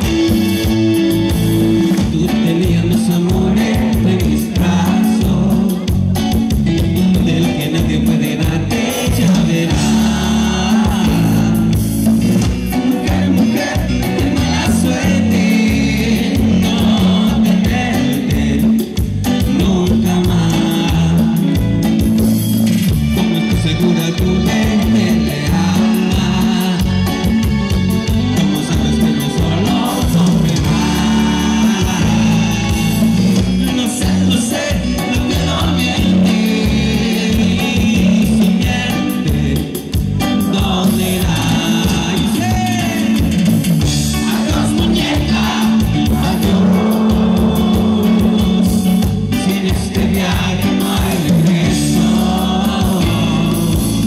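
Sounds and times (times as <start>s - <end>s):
live band playing: 0.0s - 54.0s
man singing: 0.0s - 54.0s.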